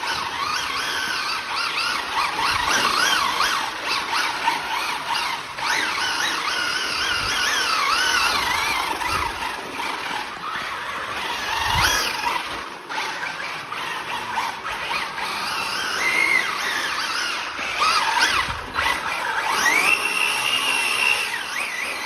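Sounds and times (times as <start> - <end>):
rc car electric motor whining: 0.0 - 22.0.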